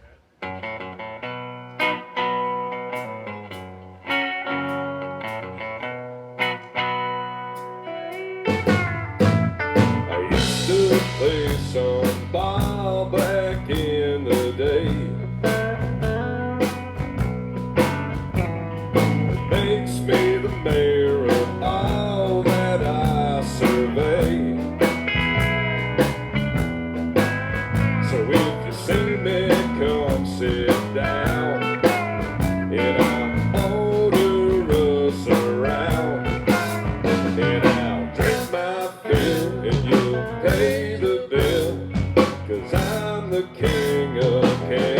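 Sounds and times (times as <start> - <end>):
country band playing: 0.4 - 44.9
lead guitar bending notes: 0.4 - 44.9.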